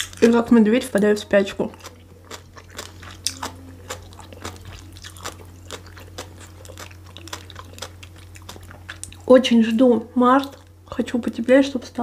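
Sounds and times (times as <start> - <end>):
chewing food crunchily: 0.0 - 9.3, 10.3 - 11.5.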